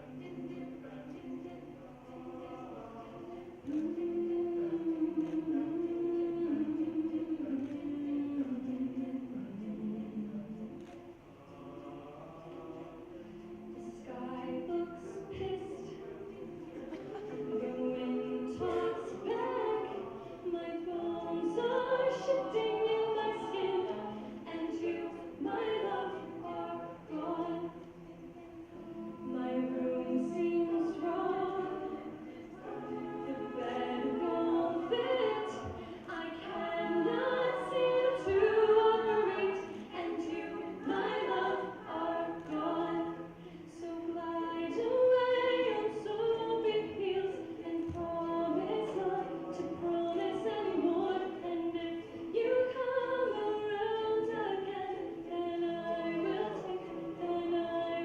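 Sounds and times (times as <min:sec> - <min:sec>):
vocal group singing in harmony: 0:00.0 - 0:58.0.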